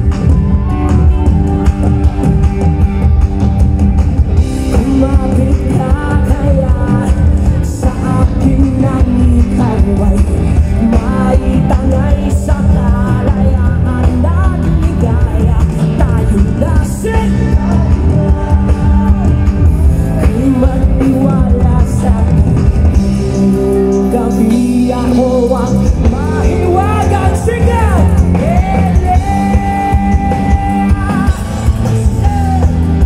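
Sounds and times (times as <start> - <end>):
live rock band playing: 0.0 - 33.0
man singing: 4.3 - 33.0.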